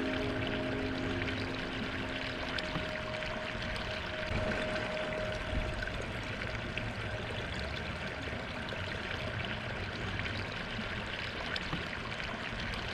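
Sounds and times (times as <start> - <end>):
water running over rocks: 0.0 - 12.9.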